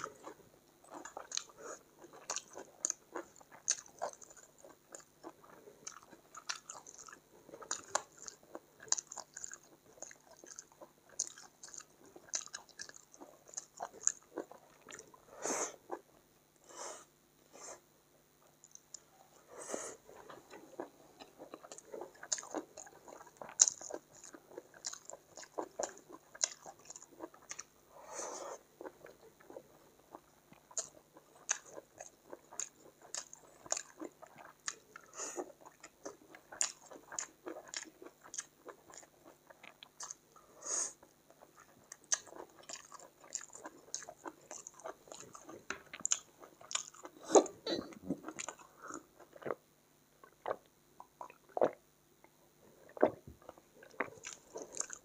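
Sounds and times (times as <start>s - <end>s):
person chewing with mouth clicks: 0.0s - 15.2s, 20.2s - 27.8s, 28.8s - 49.6s, 50.2s - 55.0s.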